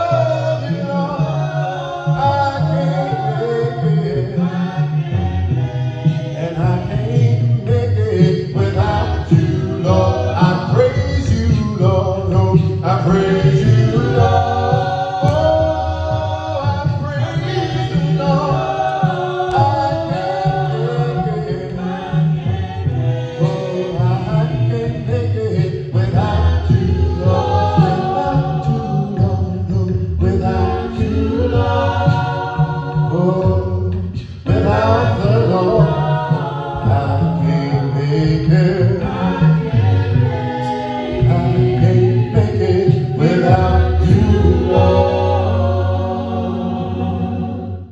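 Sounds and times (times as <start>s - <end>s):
congregation singing a hymn: 0.0s - 47.9s.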